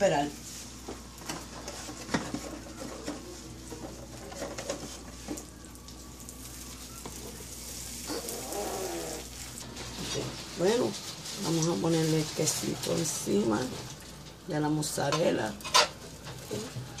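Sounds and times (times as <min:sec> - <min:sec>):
egg sizzling on a griddle: 0:00.0 - 0:14.4.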